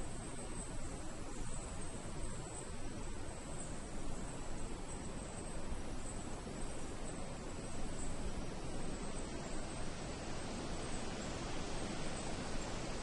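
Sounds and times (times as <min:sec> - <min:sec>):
low rumbling hiss: 0:00.0 - 0:13.0.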